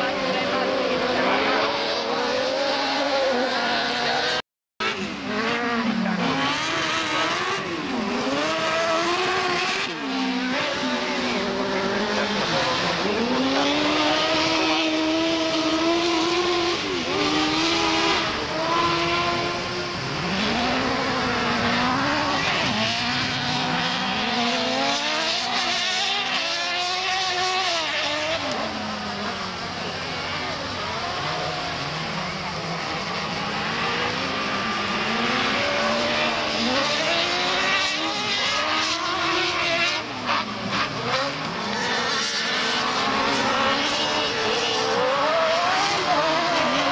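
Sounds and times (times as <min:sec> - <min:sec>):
racing engines revving: 0:00.0 - 0:46.9.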